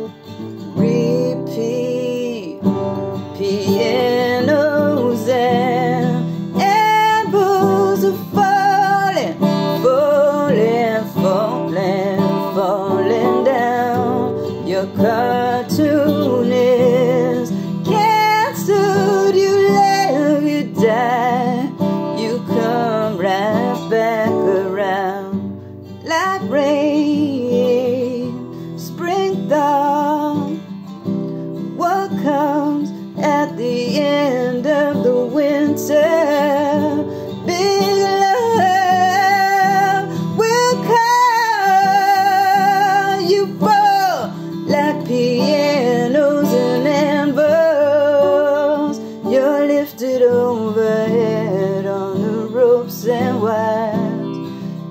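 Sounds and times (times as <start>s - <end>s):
woman singing with vibrato: 0.0s - 30.8s, 31.6s - 54.9s
acoustic guitar: 0.0s - 54.9s.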